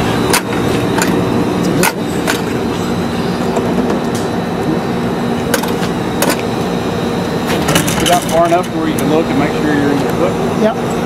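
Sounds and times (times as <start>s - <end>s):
streetcar equipment humming: 0.0s - 11.0s.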